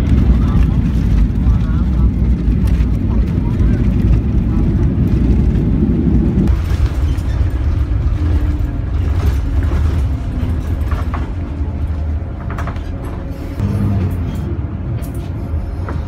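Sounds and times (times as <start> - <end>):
airliner cabin rumble: 0.0 - 16.0
bus engine drone from inside: 0.0 - 16.0.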